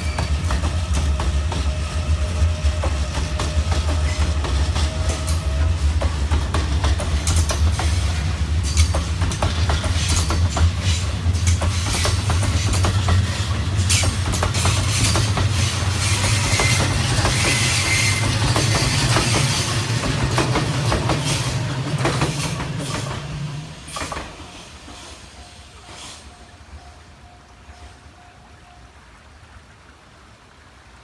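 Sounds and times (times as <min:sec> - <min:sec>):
wheels clacking over rail joints: 0:00.0 - 0:26.9.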